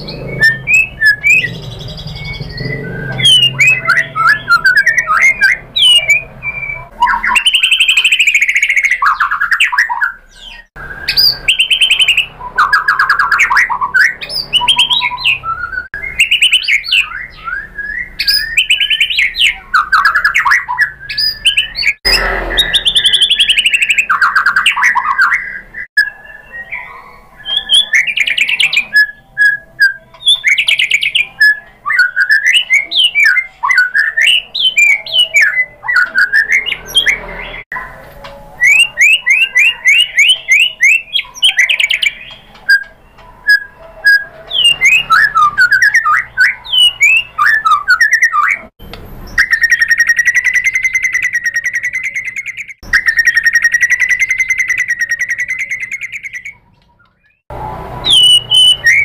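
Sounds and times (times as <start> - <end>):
bird singing whistled phrases: 0.0 - 48.7, 49.3 - 59.0.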